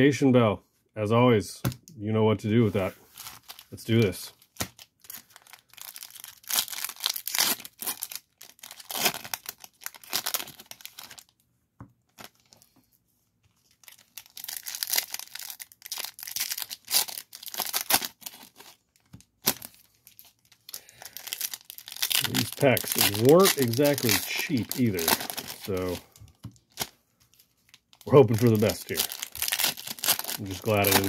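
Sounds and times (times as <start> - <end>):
cards rustling: 2.5 - 11.3, 13.6 - 31.0
wrapper tearing and crinkling: 3.2 - 11.3, 13.6 - 31.0.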